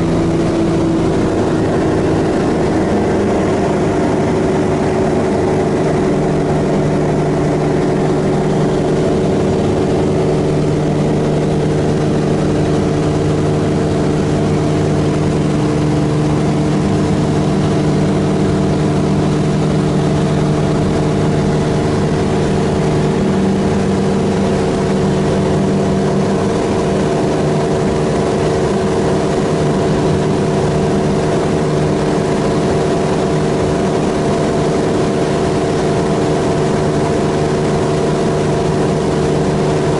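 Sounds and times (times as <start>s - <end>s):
propeller plane engine in flight: 0.0s - 39.9s.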